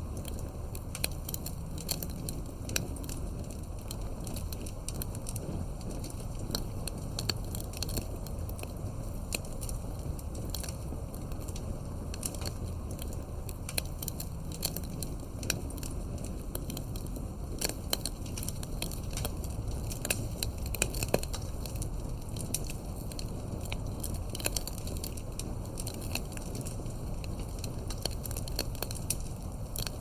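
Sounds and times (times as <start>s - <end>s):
burning wood crackles and pops: 0.0s - 30.0s
campfire low rush: 0.0s - 30.0s.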